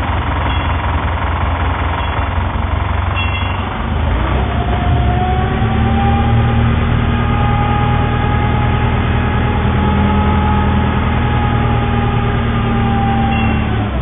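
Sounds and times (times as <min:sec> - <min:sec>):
ferry diesel engine humming: 0:00.0 - 0:14.0.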